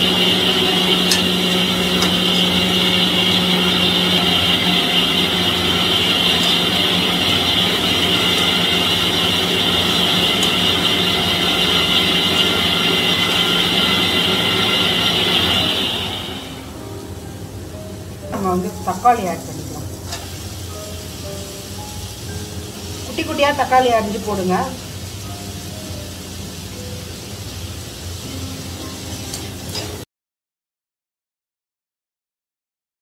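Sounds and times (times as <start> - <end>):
pressure cooker whistling hiss: 0.0 - 17.1, 18.5 - 30.0.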